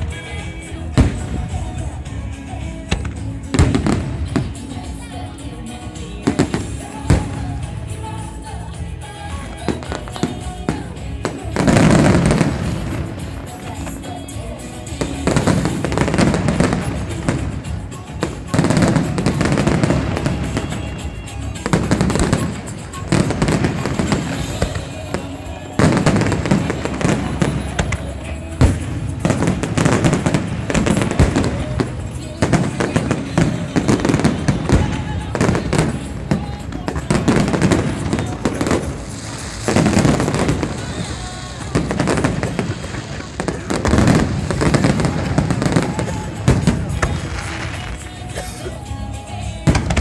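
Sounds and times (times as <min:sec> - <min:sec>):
fireworks bursting and crackling: 0:00.0 - 0:50.0
music: 0:00.0 - 0:50.0.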